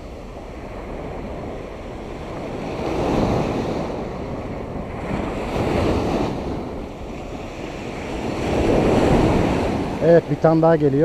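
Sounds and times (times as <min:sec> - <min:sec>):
surf breaking on sandy beach: 0:00.0 - 0:11.0
wind buffeting microphone: 0:00.0 - 0:11.0.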